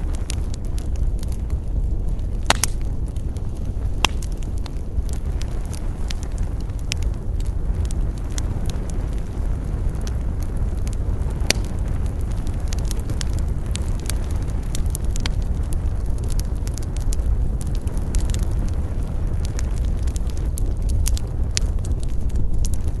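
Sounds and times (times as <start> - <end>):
campfire crackling: 0.0 - 23.0
sharp pops from fire: 0.0 - 23.0
steady low rumble: 0.0 - 23.0.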